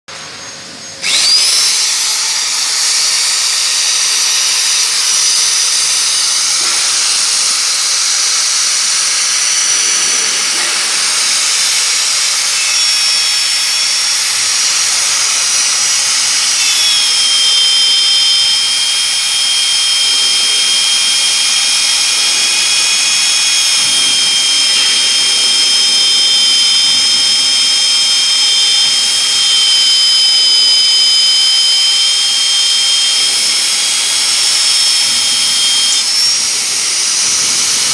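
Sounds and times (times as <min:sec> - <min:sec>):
core drill motor whining: 0:00.1 - 0:37.9.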